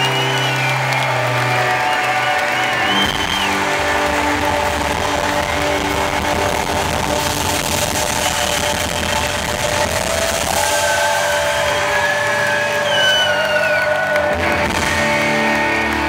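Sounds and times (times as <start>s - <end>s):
drums: 0.0s - 16.0s
electric guitar: 0.0s - 16.0s.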